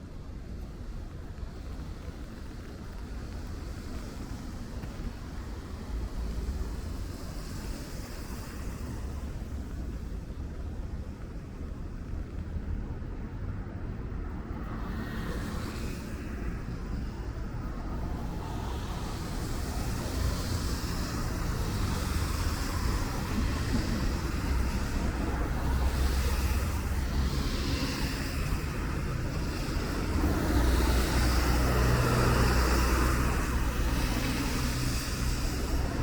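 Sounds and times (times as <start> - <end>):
cars passing on wet road: 0.2 - 36.0.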